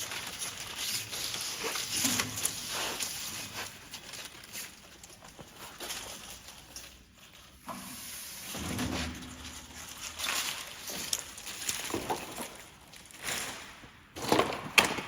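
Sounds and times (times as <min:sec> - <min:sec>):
clicks and rustling of belt: 0:00.0 - 0:08.1, 0:09.2 - 0:15.0.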